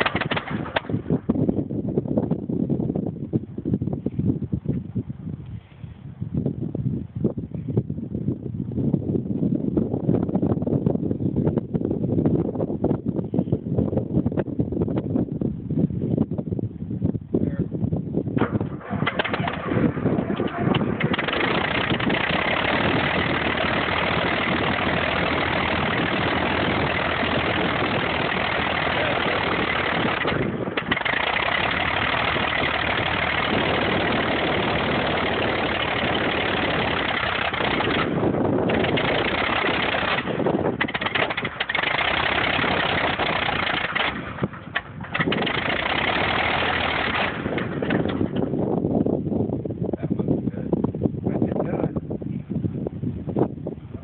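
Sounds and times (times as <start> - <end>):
propeller aircraft engine running: 0.0 - 54.0.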